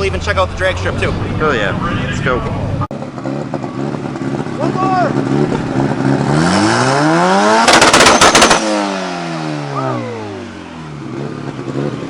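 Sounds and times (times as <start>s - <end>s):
race car engine revving: 0.0s - 12.0s
rev limiter bangs: 2.2s - 12.0s.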